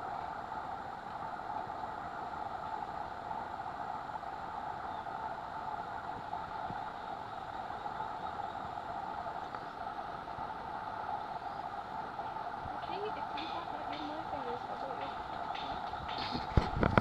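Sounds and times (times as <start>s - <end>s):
droning insect chorus: 0.0s - 17.0s
faint thin high whine: 0.0s - 17.0s.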